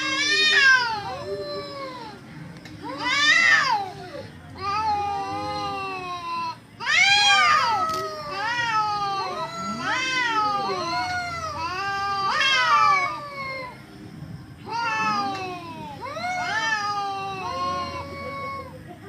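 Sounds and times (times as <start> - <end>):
cats yowling in a fight: 0.0 - 13.8, 14.7 - 18.8.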